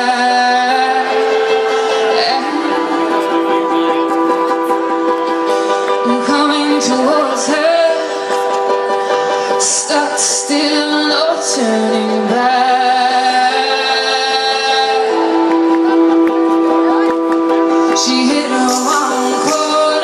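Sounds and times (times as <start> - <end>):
woman singing with live band: 0.0 - 3.5, 5.8 - 16.7, 17.3 - 20.0.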